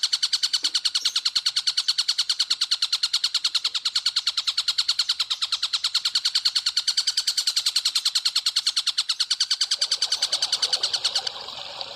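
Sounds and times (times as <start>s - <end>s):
bird chirping rapidly: 0.0s - 11.8s.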